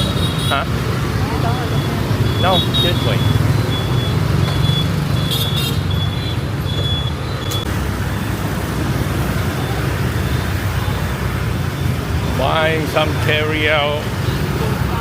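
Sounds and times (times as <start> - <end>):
motorbike engines rumbling: 0.0 - 15.0.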